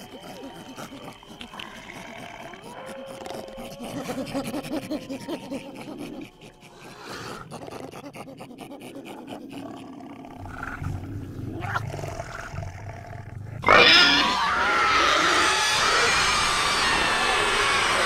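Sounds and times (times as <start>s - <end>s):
creature growling and roaring: 0.0s - 18.0s.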